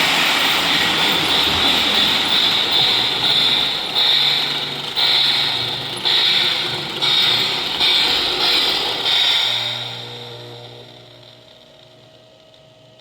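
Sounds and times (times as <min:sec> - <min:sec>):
model train whirring and rattling: 0:00.0 - 0:13.0.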